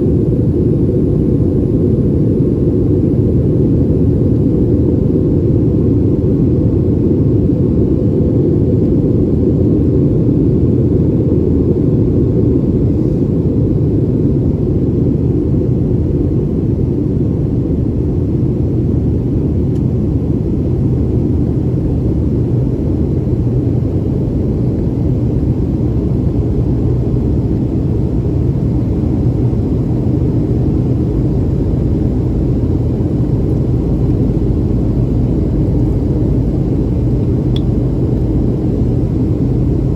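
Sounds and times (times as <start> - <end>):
airplane engines and airflow in cabin: 0.0 - 39.9.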